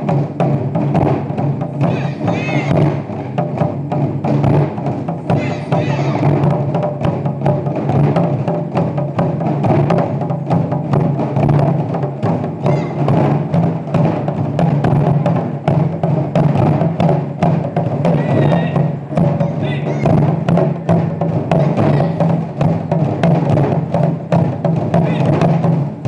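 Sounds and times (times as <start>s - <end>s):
taiko drums playing: 0.0s - 26.0s.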